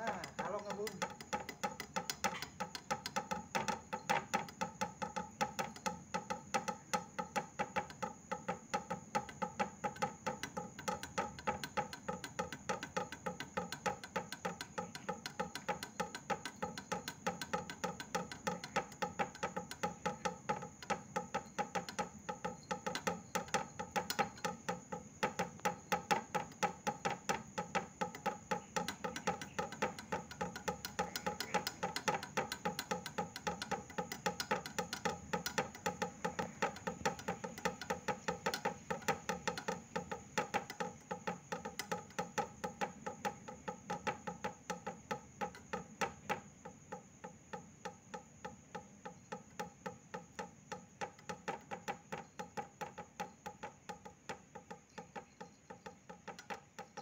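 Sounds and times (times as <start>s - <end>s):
music with percussive beat: 0.0s - 57.0s.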